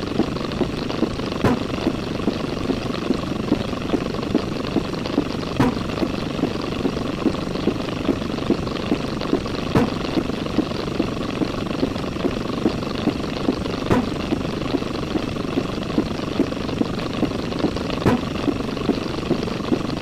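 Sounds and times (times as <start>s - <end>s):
pulsing mechanical running noise: 0.0s - 20.0s.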